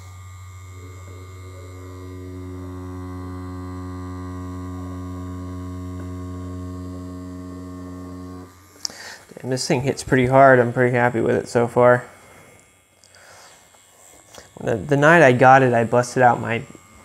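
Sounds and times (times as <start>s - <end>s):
tattoo machine humming: 0.0s - 17.0s.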